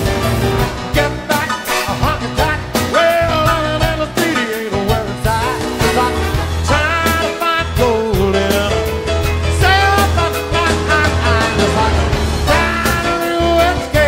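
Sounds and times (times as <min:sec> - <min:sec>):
live rock band music: 0:00.0 - 0:14.0
person singing: 0:00.9 - 0:14.0.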